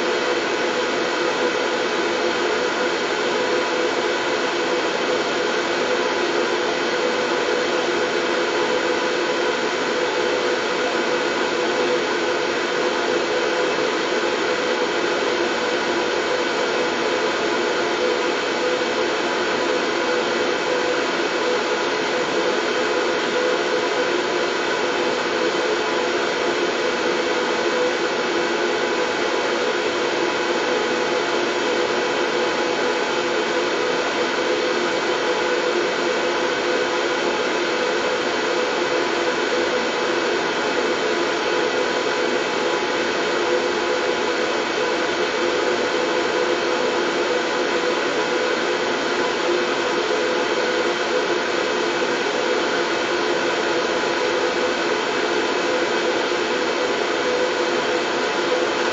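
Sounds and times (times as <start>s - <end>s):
steady white noise: 0.0s - 58.9s.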